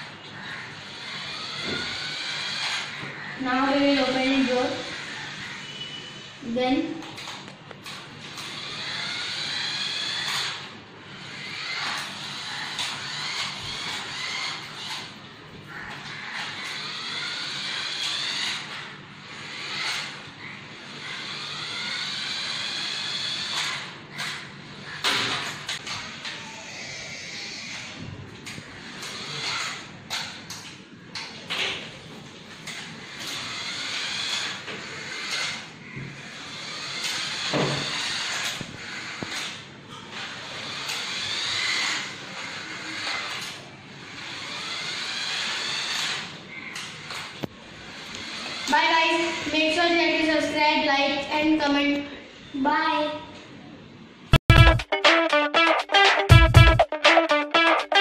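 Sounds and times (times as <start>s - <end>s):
toy car electric motor whining: 0.0s - 51.3s.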